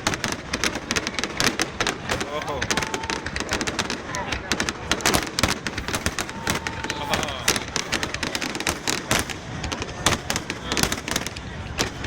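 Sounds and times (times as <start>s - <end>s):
fireworks bangs and crackles: 0.0s - 12.0s
people's voices: 0.0s - 12.0s.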